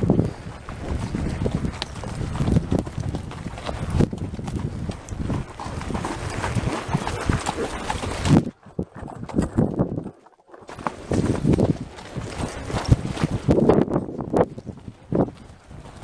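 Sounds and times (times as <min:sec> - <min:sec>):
horse hooves on dirt: 0:00.0 - 0:16.0.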